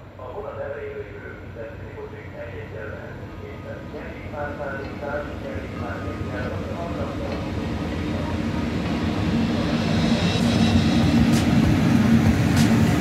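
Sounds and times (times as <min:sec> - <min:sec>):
electric locomotive passing: 0:00.0 - 0:13.0.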